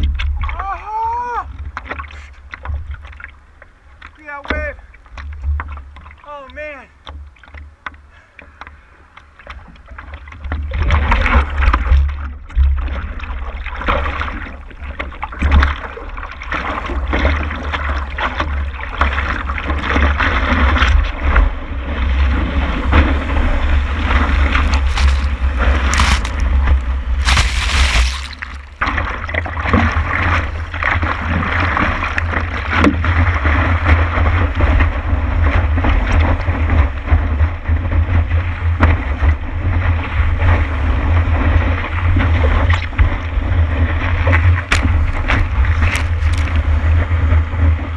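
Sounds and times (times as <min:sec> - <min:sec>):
water rushing past board: 0:09.4 - 0:47.9.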